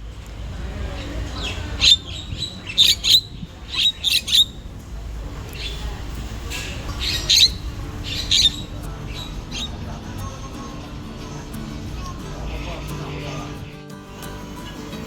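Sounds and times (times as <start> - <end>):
bird squawking: 0.4 - 13.7.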